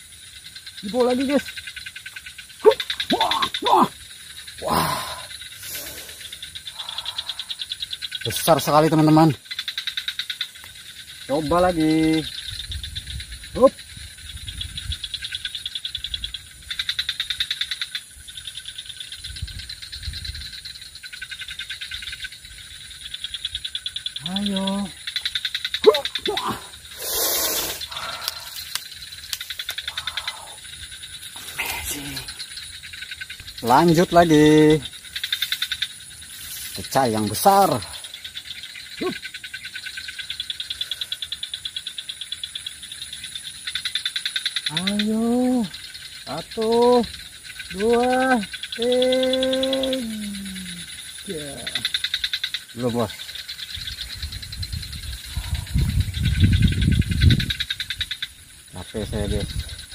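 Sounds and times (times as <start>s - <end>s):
frogs calling: 0.0s - 59.9s
insect pulsed trill: 0.0s - 59.9s.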